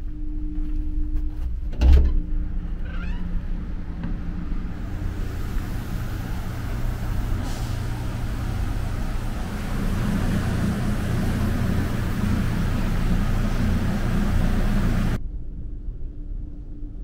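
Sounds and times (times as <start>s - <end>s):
ferry engines droning: 0.0s - 15.2s.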